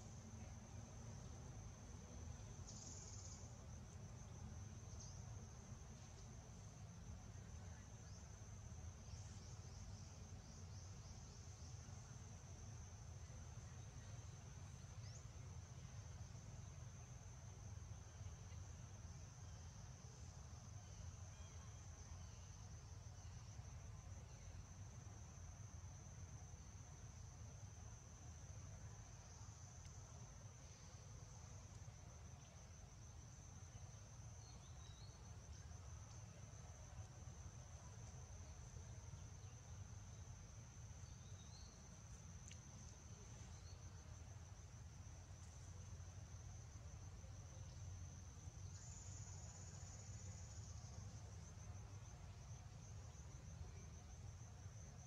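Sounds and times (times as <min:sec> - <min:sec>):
crickets chirping drone: 0:00.0 - 0:55.0.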